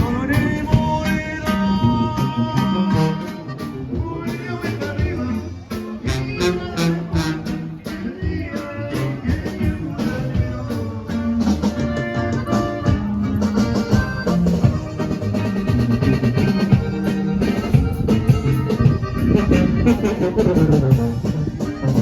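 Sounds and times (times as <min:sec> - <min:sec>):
music with singing and guitar: 0:00.0 - 0:22.0.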